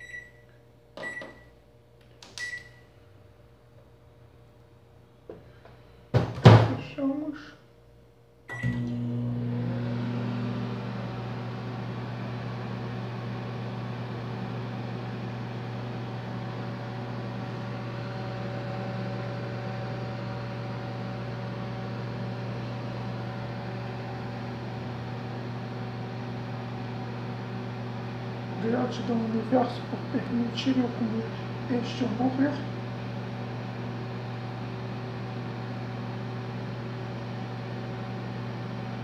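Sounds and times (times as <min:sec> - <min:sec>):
microwave oven humming: 0:00.0 - 0:07.5, 0:08.2 - 0:39.0.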